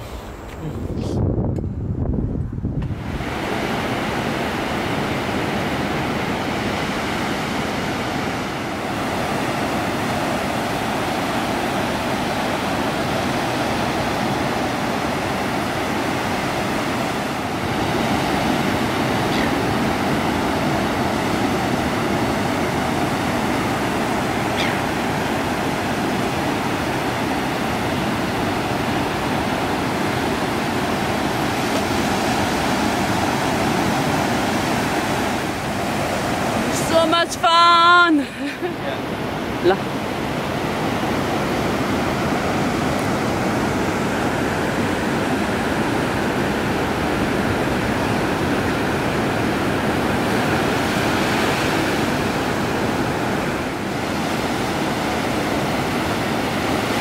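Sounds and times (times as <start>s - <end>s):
ocean waves breaking: 2.8s - 57.0s.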